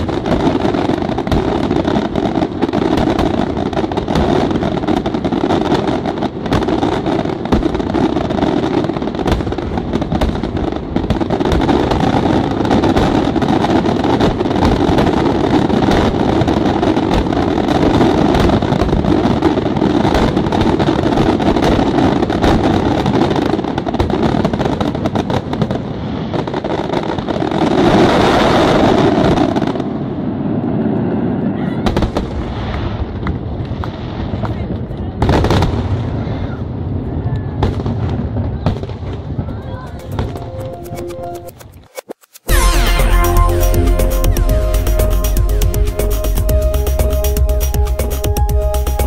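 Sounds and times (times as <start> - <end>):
fireworks barrage: 0.0 - 49.0.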